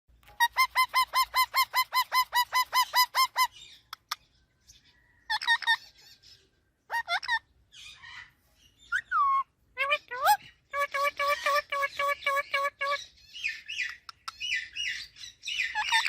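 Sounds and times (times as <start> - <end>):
parrot squawking: 0.3 - 4.2, 5.3 - 6.0, 6.9 - 16.0.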